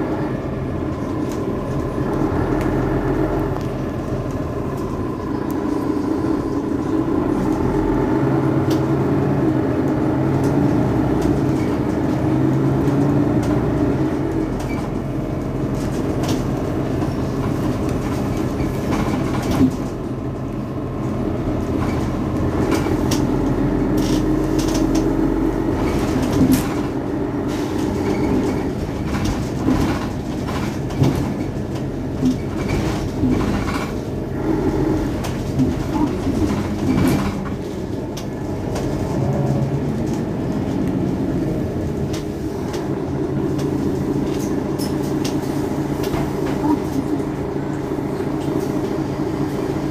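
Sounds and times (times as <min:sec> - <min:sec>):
bus engine idling: 0:00.0 - 0:49.9.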